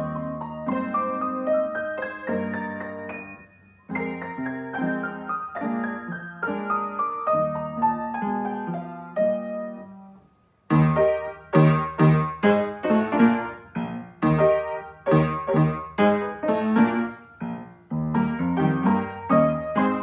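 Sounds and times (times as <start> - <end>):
piano four hands: 0.0 - 20.0.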